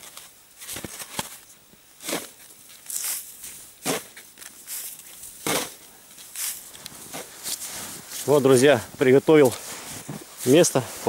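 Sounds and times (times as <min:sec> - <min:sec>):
shovel digging snow: 0:02.0 - 0:11.0.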